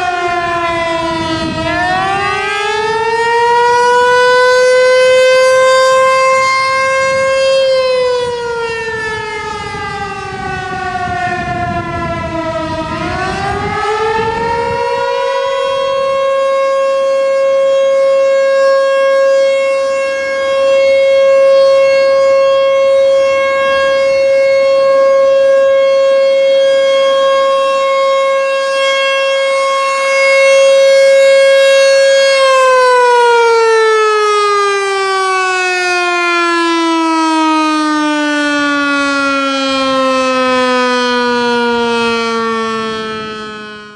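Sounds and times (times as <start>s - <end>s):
tornado siren winding down: 0.0s - 43.9s.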